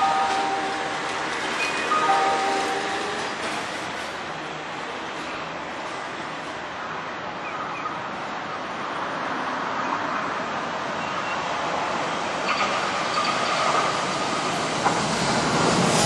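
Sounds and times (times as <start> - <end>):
electric train approaching: 0.0 - 6.8, 8.9 - 16.0.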